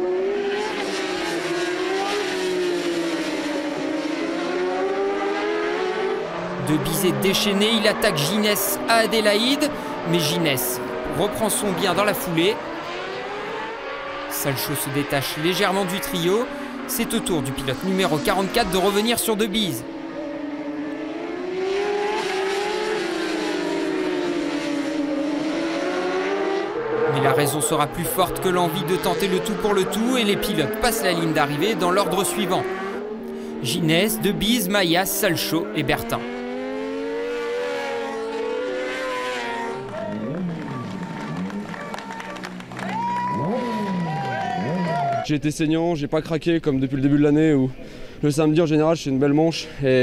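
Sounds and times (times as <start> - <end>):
racing motorcycles at high revs: 0.0 - 45.1.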